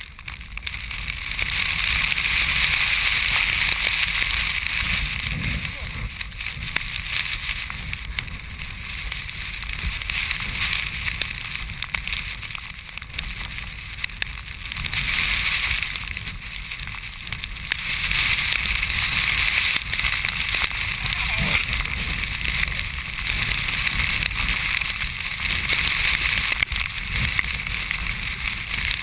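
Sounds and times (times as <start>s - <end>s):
wind buffeting microphone: 0.8s - 12.4s, 13.2s - 29.0s.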